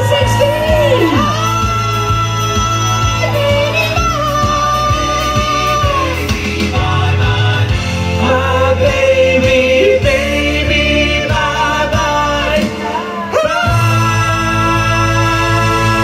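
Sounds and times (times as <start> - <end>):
men singing into microphones: 0.0 - 16.0
pop backing track: 0.0 - 16.0.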